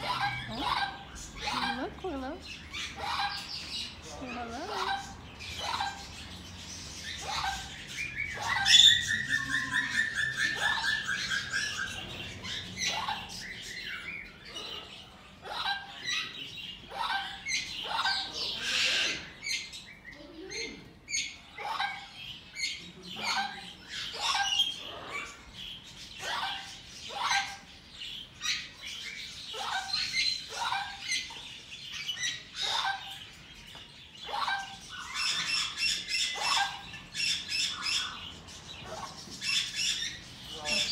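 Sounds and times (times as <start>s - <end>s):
parrots chirping: 0.0s - 40.9s.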